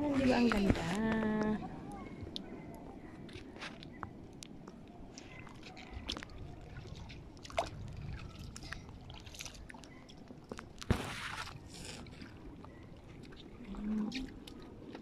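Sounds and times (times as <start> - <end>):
water splashing under wading steps: 0.0 - 15.0.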